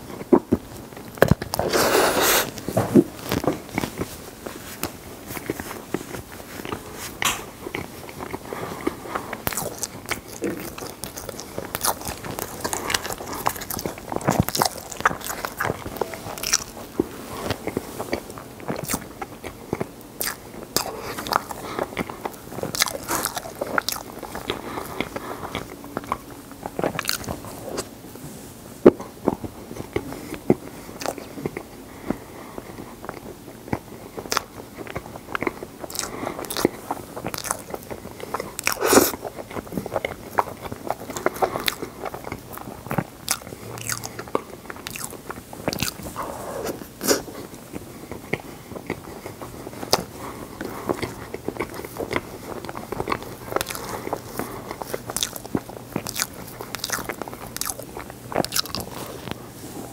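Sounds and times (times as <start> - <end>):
person chewing ice: 0.0 - 27.9, 28.9 - 59.5.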